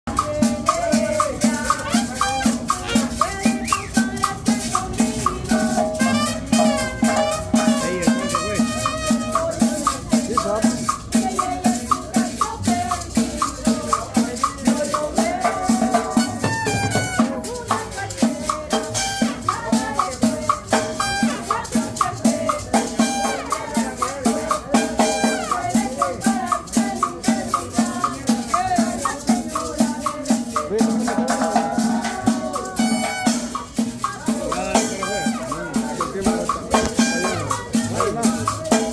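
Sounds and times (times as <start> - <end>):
shaken rattle percussion: 0.0 - 38.9
live band playing cumbia: 0.1 - 38.9.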